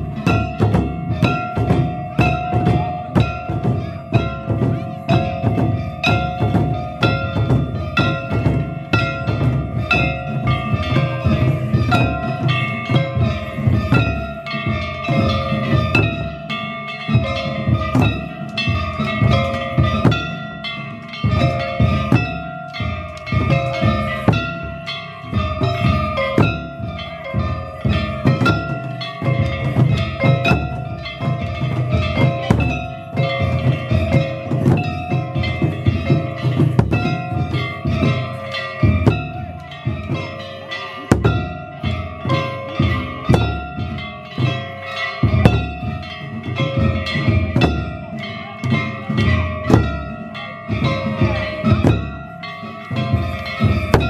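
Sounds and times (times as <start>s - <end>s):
small metal hand gongs ringing: 0.0s - 54.0s
taiko drums struck rapidly: 0.0s - 54.0s.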